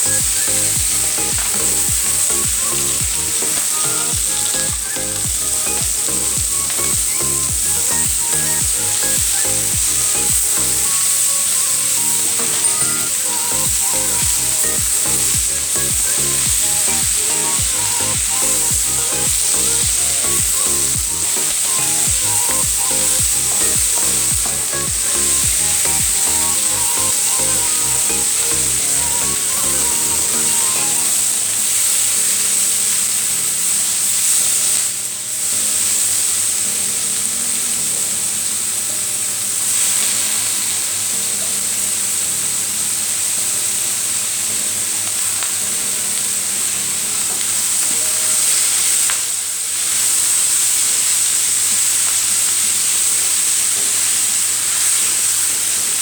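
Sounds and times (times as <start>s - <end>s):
vegetables sizzling in hot oil: 0.0s - 36.8s, 37.9s - 56.0s.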